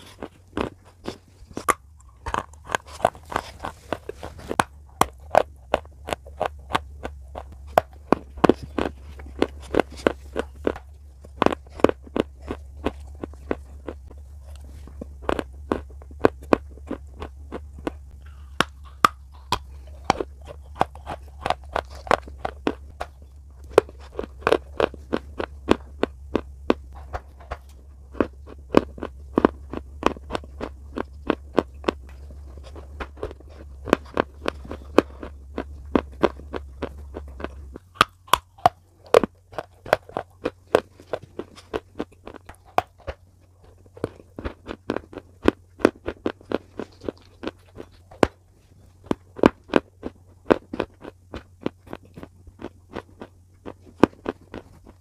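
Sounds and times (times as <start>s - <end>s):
crunching hard pieces with teeth: 0.0s - 55.0s
low hum: 0.0s - 55.0s.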